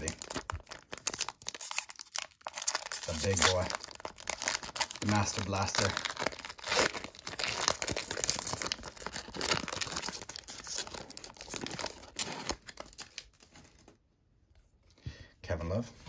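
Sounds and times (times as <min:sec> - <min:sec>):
plastic wrapper crinkling and tearing: 0:00.0 - 0:14.0.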